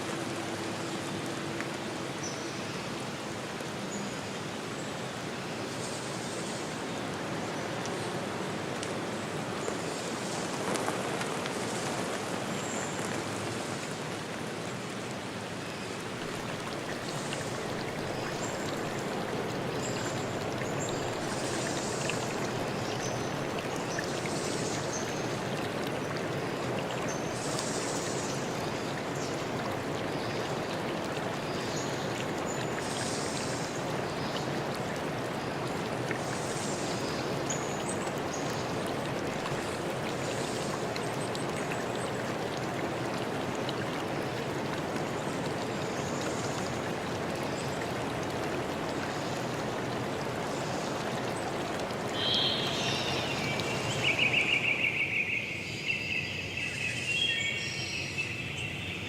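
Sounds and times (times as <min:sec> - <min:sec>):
stream water running: 0:00.0 - 0:59.0.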